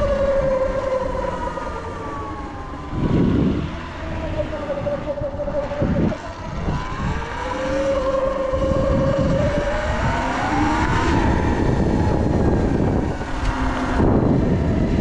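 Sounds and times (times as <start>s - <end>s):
electric motor whining: 0.0s - 15.0s
wind and tyre rumble: 0.0s - 15.0s.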